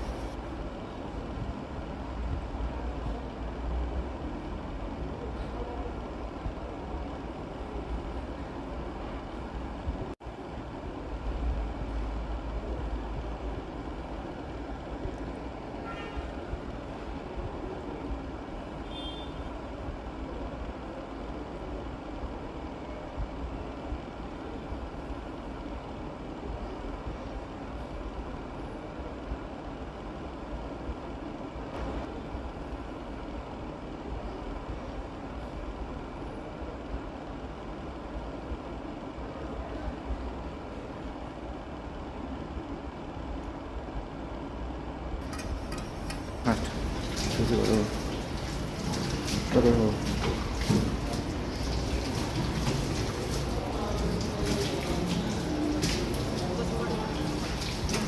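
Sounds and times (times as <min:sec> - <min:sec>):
low rumbling background noise: 0:00.0 - 0:58.0.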